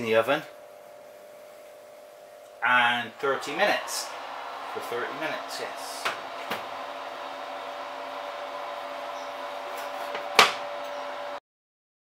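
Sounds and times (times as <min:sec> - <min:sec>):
oven electric hum: 0:00.0 - 0:11.4.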